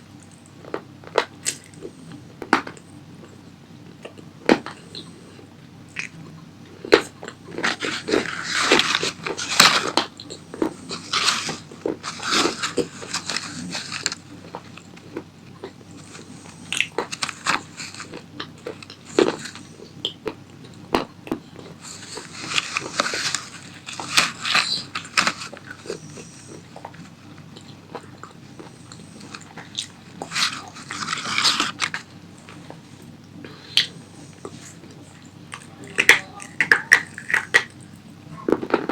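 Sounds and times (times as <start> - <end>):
person chewing crunchy food: 0.2 - 38.9.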